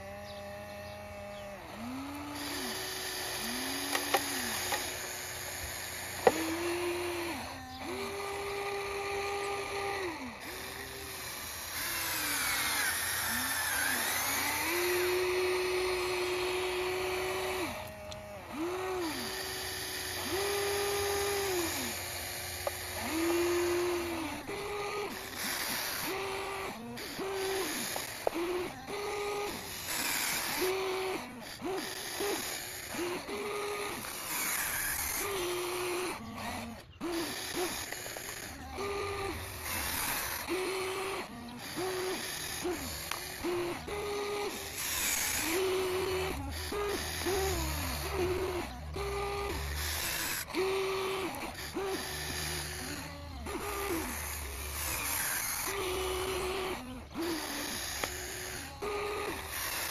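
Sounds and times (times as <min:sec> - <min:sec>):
toy excavator motors whining: 0:00.0 - 0:59.9.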